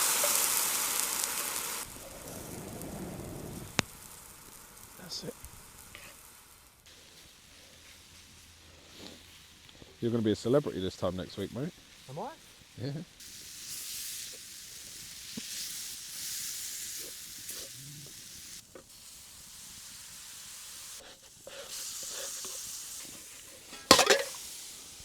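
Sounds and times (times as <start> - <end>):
meat sizzling in butter: 0.0 - 25.0.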